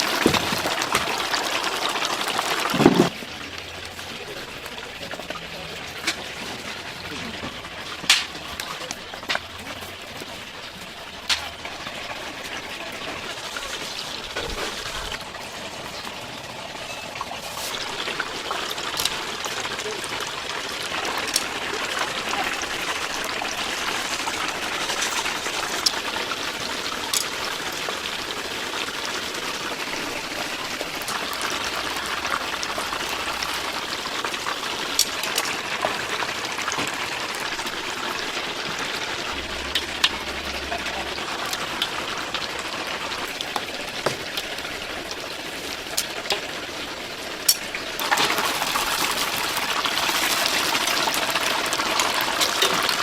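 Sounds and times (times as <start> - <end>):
chicken deep-frying in oil: 0.0 - 53.0
oil popping and crackling: 0.0 - 53.0.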